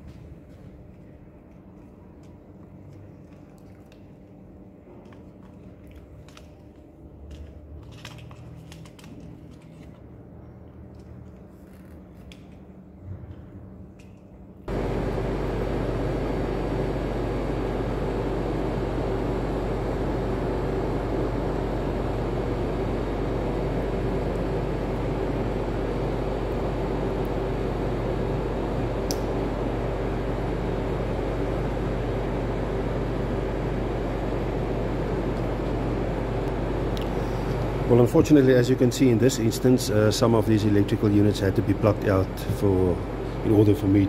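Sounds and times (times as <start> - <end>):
mechanical hum and hiss: 0.0 - 44.0.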